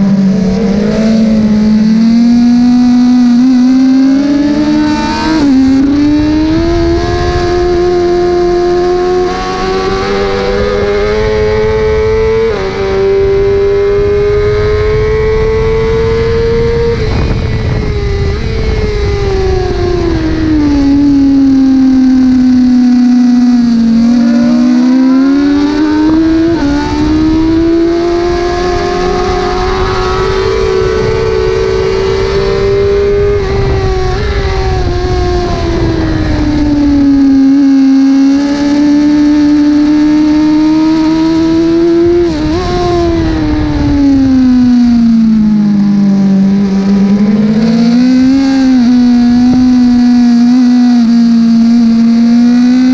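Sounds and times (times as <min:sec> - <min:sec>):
superbike engine racing: 0:00.0 - 0:52.9
wind rush: 0:00.0 - 0:52.9.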